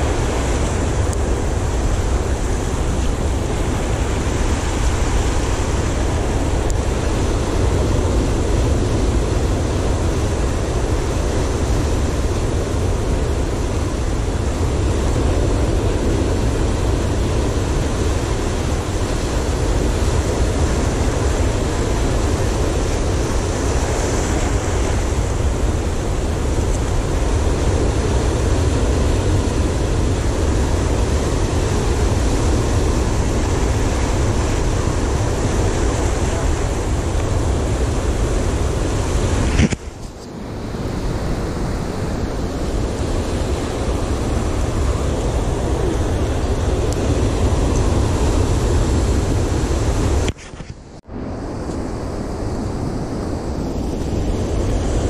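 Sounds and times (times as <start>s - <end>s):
surf breaking over rocks: 0.0s - 55.0s
wind on microphone: 0.0s - 55.0s.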